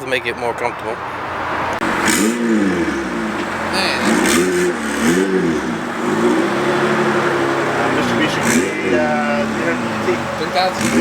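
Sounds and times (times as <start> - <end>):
car engine revving: 1.8 - 11.0.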